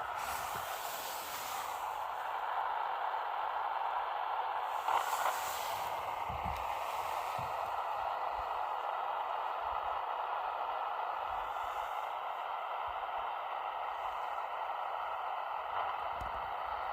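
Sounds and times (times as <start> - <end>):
shortwave radio hiss: 0.0 - 16.9.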